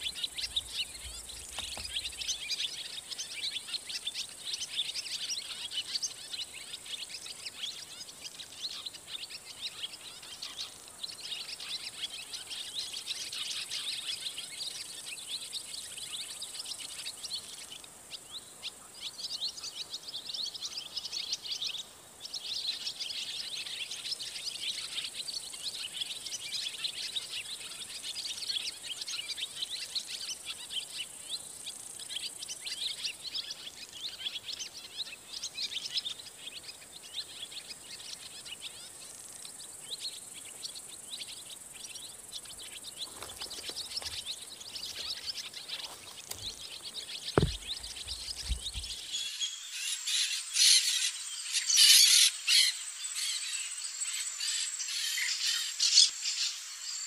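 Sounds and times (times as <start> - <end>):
many small birds chirping: 0.0 - 57.0.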